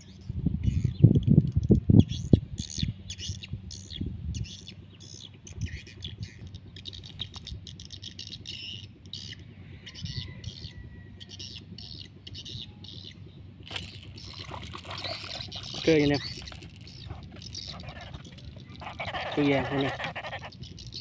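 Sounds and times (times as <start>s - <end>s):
low steady rumble: 0.0s - 21.0s
small bird chirping: 0.1s - 21.0s.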